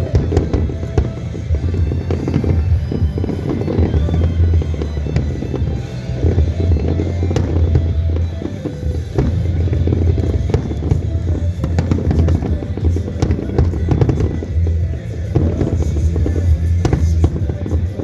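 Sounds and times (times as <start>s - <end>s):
fireworks bangs and crackling pops: 0.0s - 18.0s
loud music: 0.0s - 18.0s.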